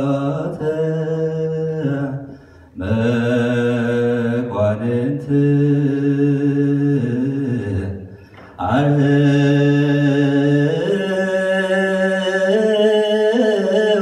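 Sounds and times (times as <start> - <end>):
men chanting: 0.0 - 14.0.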